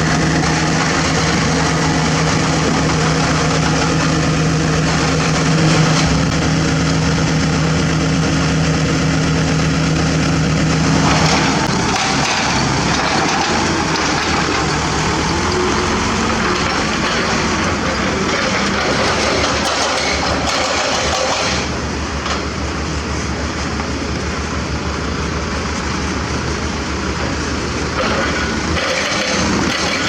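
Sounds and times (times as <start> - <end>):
diesel construction machinery hum: 0.0 - 30.0
rough mechanical noise: 0.0 - 30.0.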